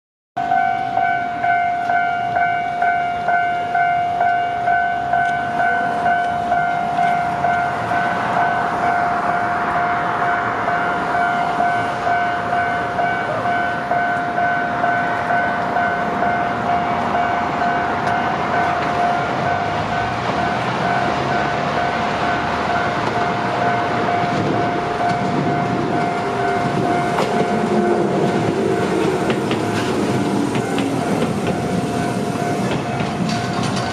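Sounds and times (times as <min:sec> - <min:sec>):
level crossing bell clanging: 0:00.4 - 0:33.9
train wheels clattering on rails: 0:00.8 - 0:33.9.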